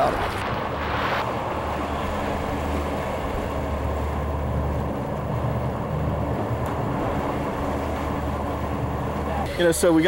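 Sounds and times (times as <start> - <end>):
outboard motors droning: 0.0 - 10.0
rush of wind and water: 0.0 - 10.0.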